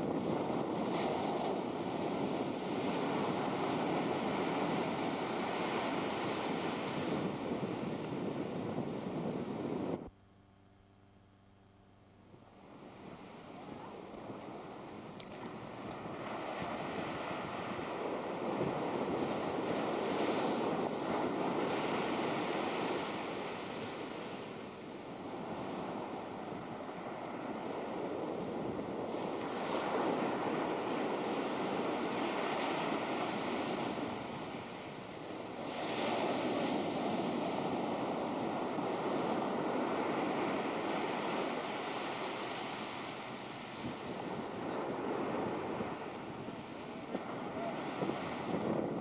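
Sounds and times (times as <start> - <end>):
ocean waves breaking on beach: 0.0 - 10.1, 12.6 - 49.0.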